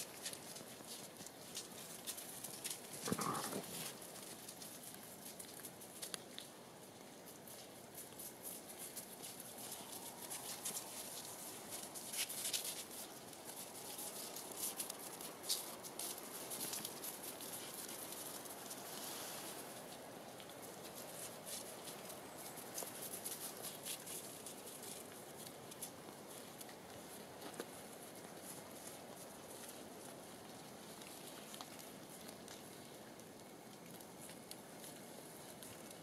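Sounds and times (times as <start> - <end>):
paws and footsteps in snow: 0.0 - 36.0.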